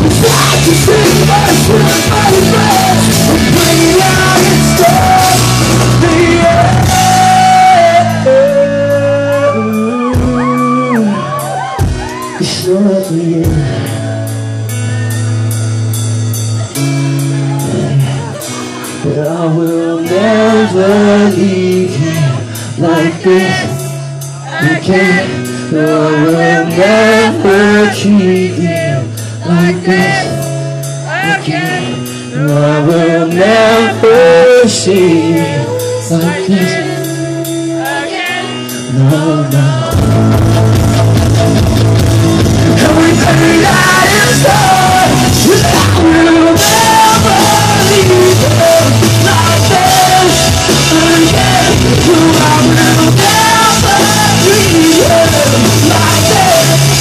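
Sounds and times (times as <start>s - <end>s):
man singing: 0.0s - 14.3s, 17.5s - 40.9s, 42.2s - 57.0s
live rock band playing: 0.0s - 57.0s.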